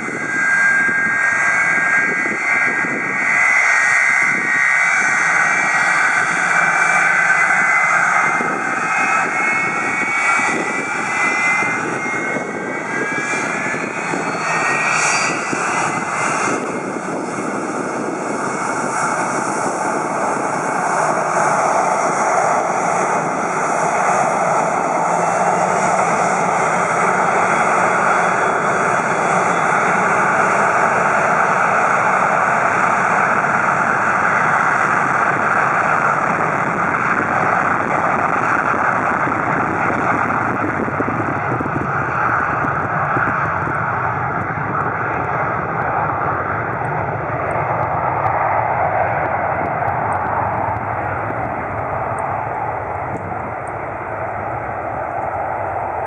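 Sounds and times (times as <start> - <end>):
jet engines whining: 0.0 - 56.0
loud steady jet noise: 0.0 - 56.0.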